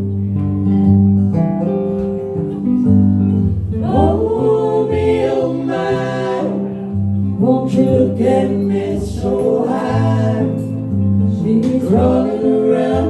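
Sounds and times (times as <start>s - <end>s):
blues band playing: 0.0s - 12.3s.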